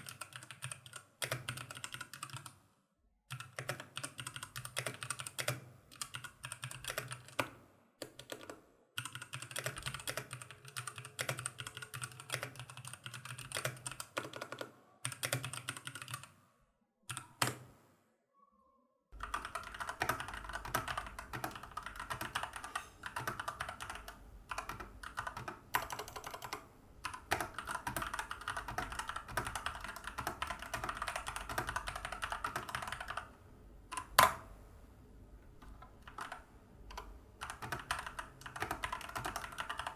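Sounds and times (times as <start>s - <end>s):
mechanical keyboard typing: 0.0s - 2.6s, 3.3s - 16.3s, 17.1s - 17.7s, 19.2s - 34.5s, 35.6s - 39.9s.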